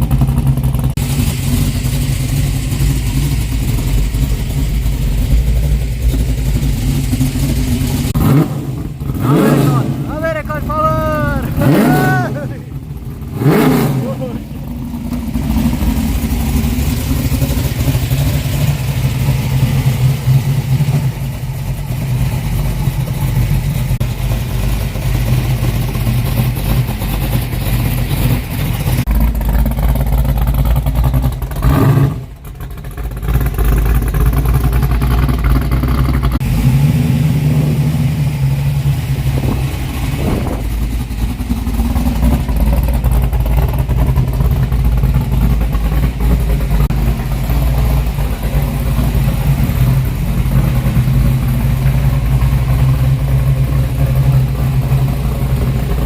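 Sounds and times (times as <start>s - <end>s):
sports car engine running: 0.0s - 56.0s.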